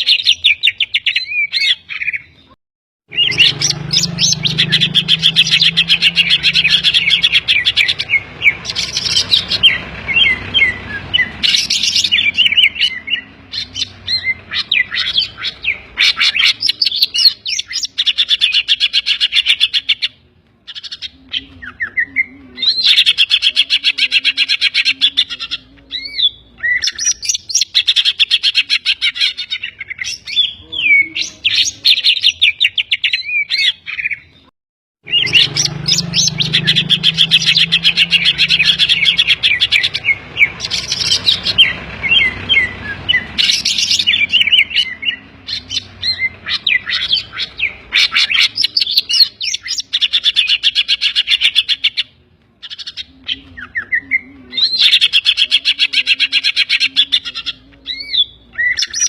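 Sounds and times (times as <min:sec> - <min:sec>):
bird singing trills and whistles: 0:00.0 - 0:59.0.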